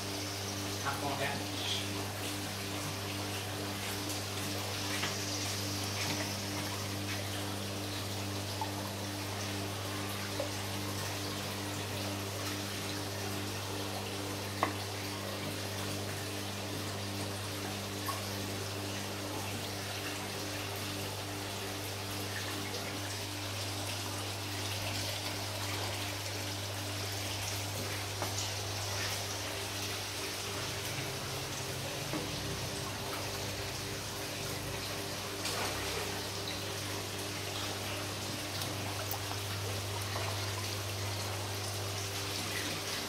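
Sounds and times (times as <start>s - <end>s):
water trickling and splashing: 0.0s - 43.0s.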